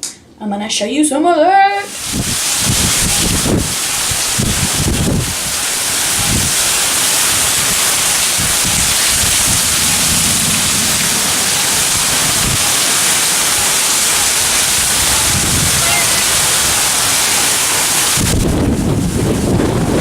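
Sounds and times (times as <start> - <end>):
heavy rain pouring: 1.9 - 20.0
low rumbles: 2.0 - 20.0.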